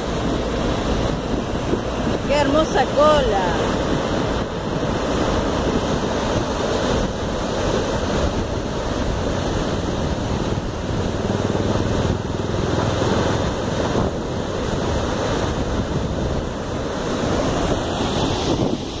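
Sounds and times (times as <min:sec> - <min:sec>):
high-pressure water jet roaring: 0:00.0 - 0:19.0.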